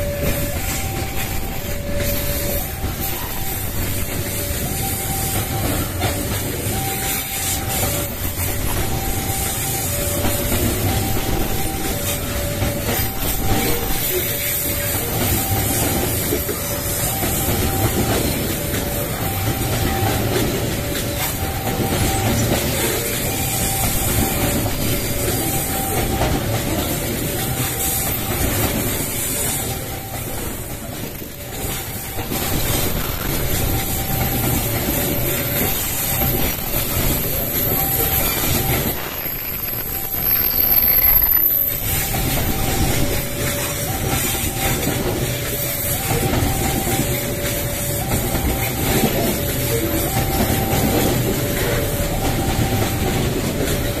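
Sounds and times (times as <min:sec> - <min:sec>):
train wheels clattering on rails: 0:00.0 - 0:54.0
two-tone warning alarm: 0:00.0 - 0:54.0.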